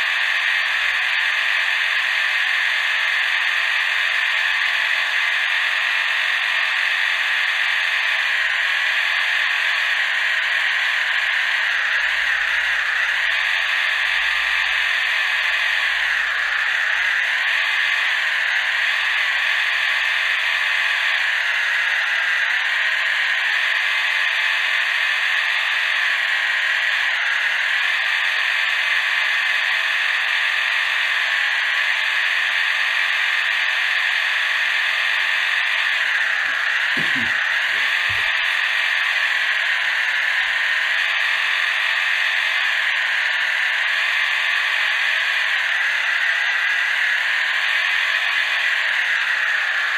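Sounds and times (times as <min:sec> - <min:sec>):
toy car electric motor whining: 0:00.0 - 0:49.9.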